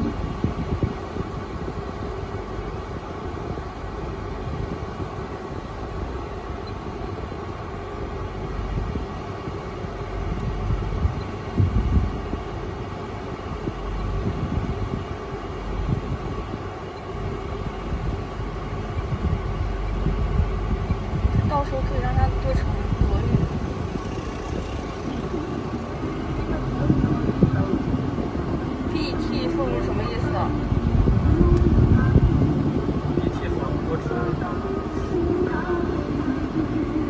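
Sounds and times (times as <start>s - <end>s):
faint constant hum: 0.0s - 37.0s
road and tyre rumble: 0.0s - 37.0s.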